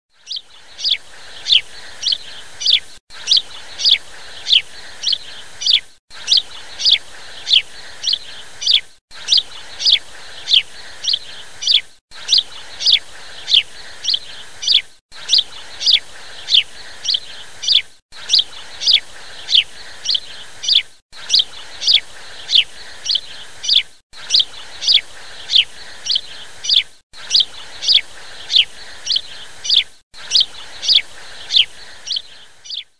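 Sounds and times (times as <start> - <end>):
small bird chirping: 0.2 - 32.9.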